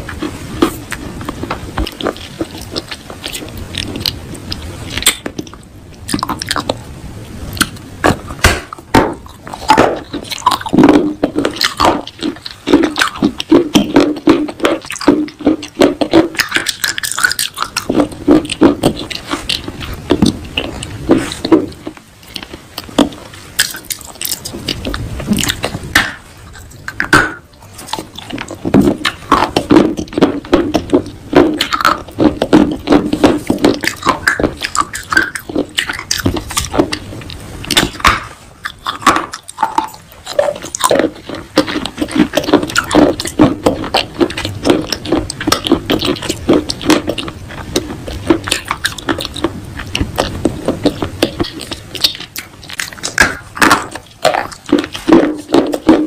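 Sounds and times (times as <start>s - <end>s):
chewing and crunching clay: 0.0s - 56.0s.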